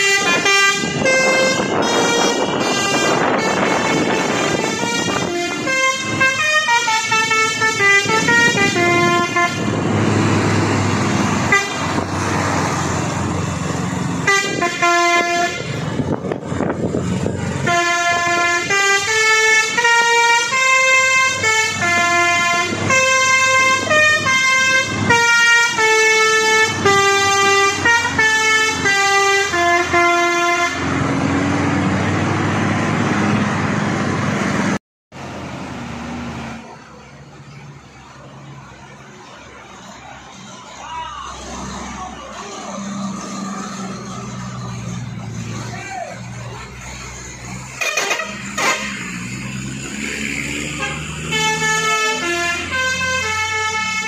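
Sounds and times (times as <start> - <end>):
multi-tone truck horn tune: 0.0 - 33.8, 42.8 - 54.0
road noise: 0.0 - 54.0
truck engine: 0.0 - 54.0.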